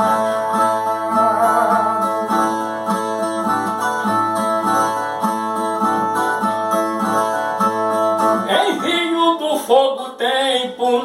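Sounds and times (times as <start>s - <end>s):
plucked viola rhythmic figure: 0.0s - 10.0s.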